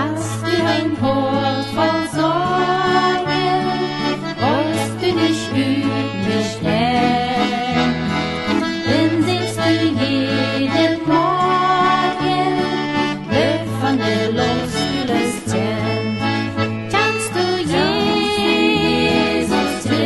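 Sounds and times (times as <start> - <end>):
accordion playing hymn: 0.0 - 20.0.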